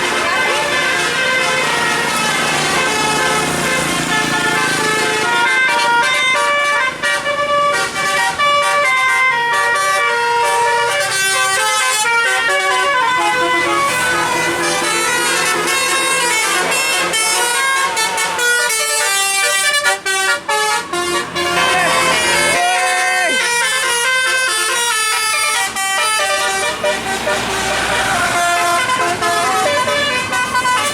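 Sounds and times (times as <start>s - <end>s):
musical bus air horn: 0.0s - 30.9s.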